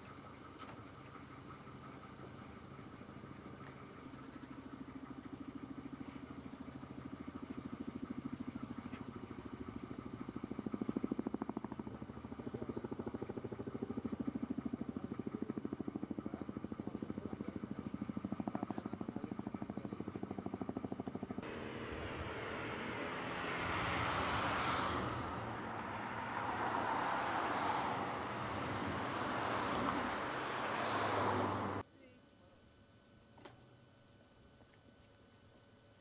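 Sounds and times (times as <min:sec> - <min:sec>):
helicopter rotor chop: 0:01.5 - 0:31.8.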